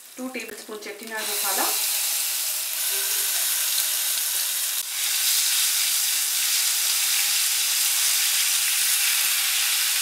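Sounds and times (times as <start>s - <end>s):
spice paste sizzling in oil: 0.0s - 10.0s.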